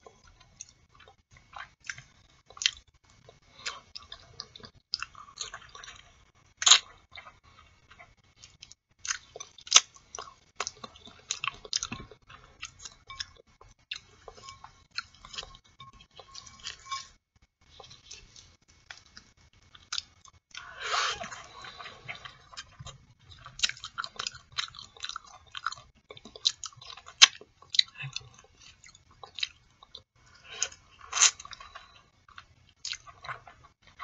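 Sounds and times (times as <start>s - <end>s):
wet chewing mouth sounds: 0.0s - 34.0s.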